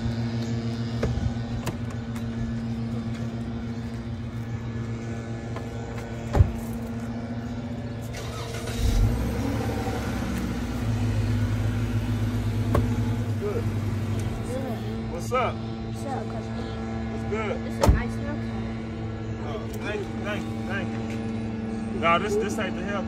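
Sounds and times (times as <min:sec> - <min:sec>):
car engine idling: 0:00.0 - 0:23.0
engine rumble: 0:00.0 - 0:23.0.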